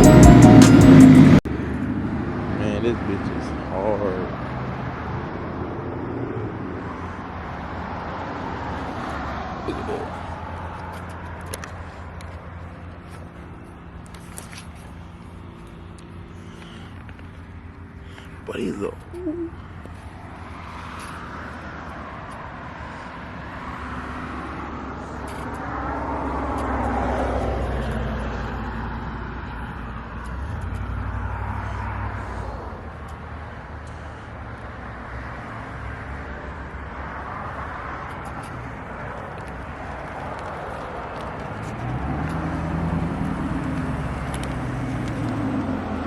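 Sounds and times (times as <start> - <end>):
car engine hum: 0.0 - 46.0
tyre noise on road: 0.0 - 46.0.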